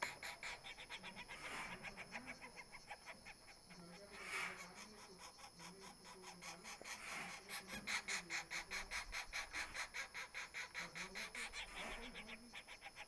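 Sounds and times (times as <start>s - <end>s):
nestlings begging calls: 0.0s - 13.0s.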